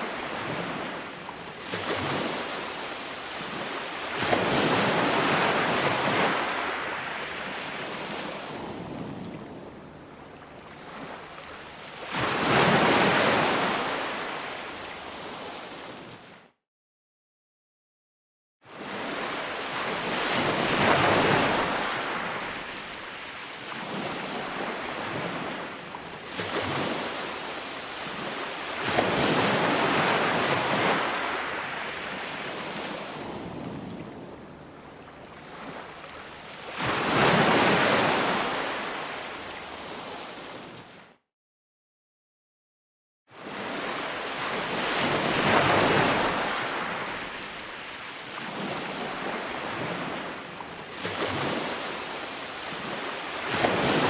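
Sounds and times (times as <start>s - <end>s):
ocean waves breaking: 0.0s - 16.3s, 18.7s - 41.1s, 43.4s - 54.0s.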